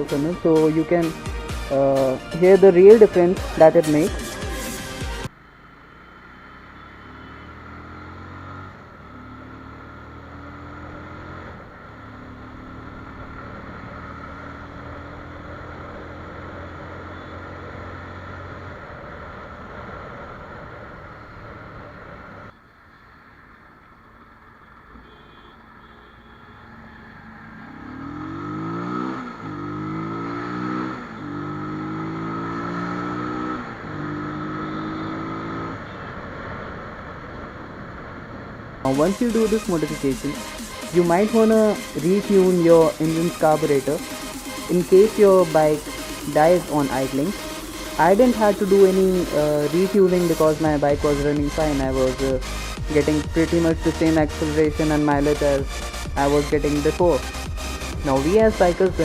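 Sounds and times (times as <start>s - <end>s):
motorcycle engine revving: 0.0s - 22.5s, 26.7s - 59.0s.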